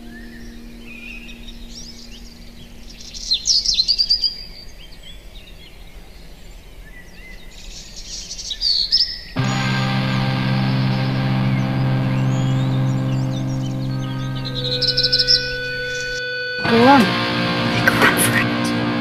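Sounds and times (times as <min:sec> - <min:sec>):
birds chirping and trilling: 0:00.0 - 0:17.3.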